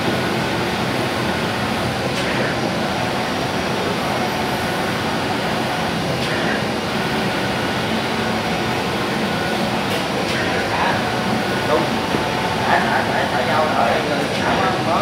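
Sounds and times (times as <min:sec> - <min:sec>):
cutting machine running with low hum: 0:00.0 - 0:15.0.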